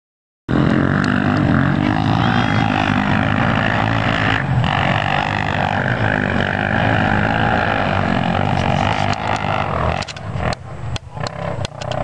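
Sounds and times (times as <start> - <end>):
dirt bike engines droning: 0.5 - 12.0.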